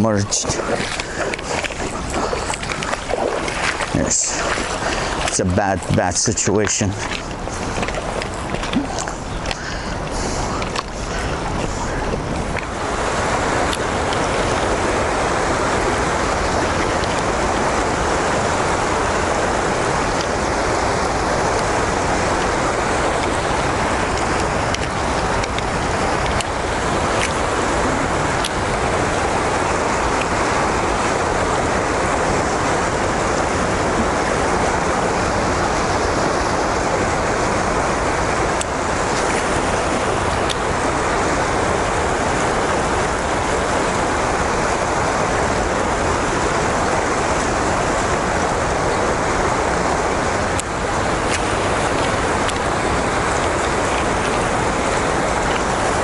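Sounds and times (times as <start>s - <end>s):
fast river water rushing: 0.0s - 56.0s.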